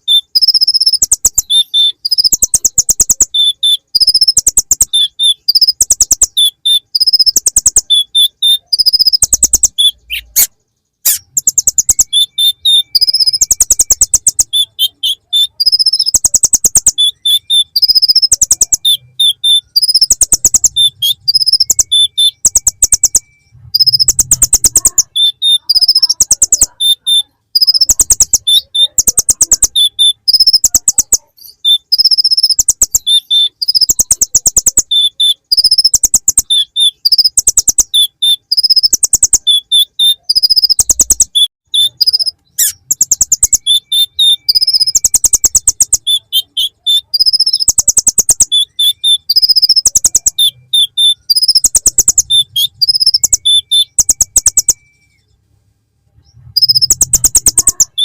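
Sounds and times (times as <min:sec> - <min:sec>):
bird singing ticking and whistled notes: 0:00.0 - 0:55.4, 0:56.2 - 0:58.0.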